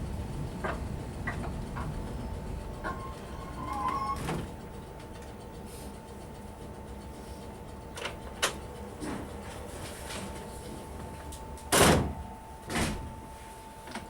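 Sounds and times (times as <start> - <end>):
faint steady whine: 0.0 - 14.0
train low rumble: 0.0 - 14.0.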